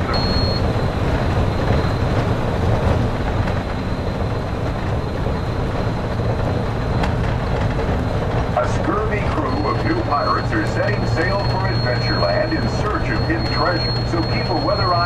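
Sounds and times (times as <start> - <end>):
monorail rumbling: 0.0 - 15.0.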